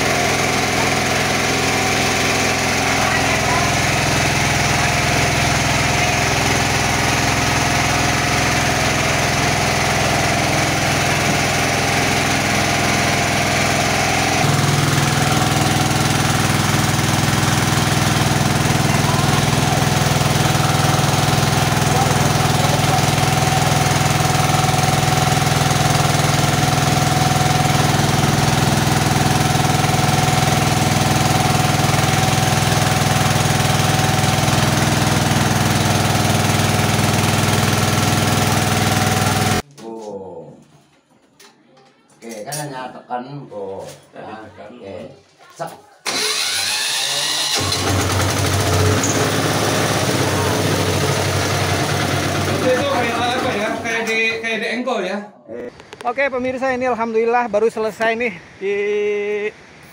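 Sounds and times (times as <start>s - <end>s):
rice mill engine humming: 0.0s - 39.6s, 46.0s - 54.6s.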